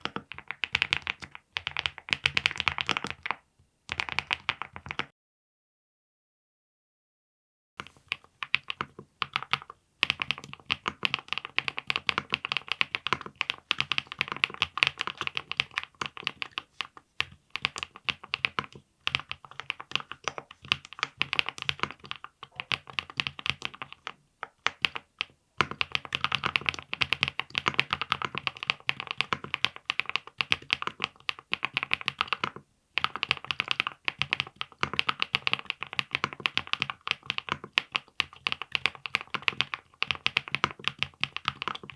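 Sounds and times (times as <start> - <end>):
fast typing on mechanical keyboard: 0.0 - 5.1, 7.8 - 41.9.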